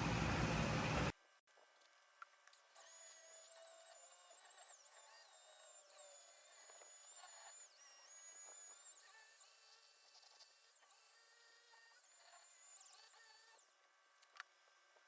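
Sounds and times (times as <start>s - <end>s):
faint drill whine: 0.0s - 1.2s, 1.8s - 15.0s.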